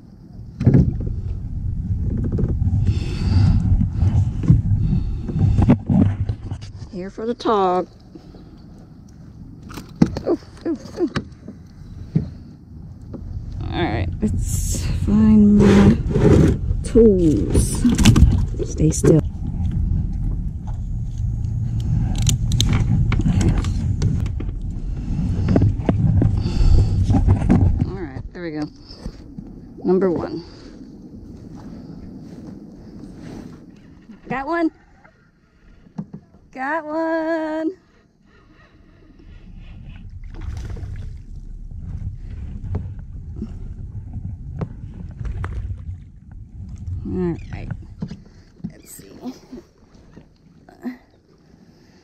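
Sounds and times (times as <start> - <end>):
steady low rumble: 0.0 - 52.0.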